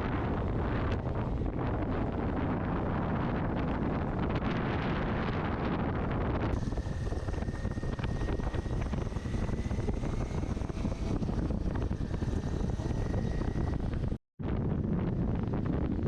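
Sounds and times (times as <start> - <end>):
moving vehicle running noise: 0.0 - 16.0
wind buffeting microphone: 0.0 - 16.0.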